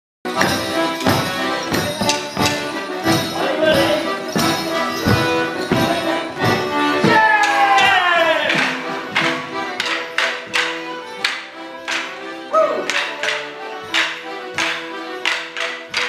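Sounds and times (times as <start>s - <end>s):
lively folk music: 0.3s - 16.0s
sharp rhythmic strikes: 0.3s - 16.0s.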